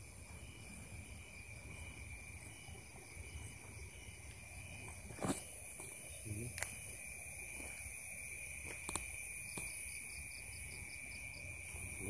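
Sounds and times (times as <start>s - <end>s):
crickets trilling: 0.0s - 12.0s
insect pulsing: 0.0s - 12.0s.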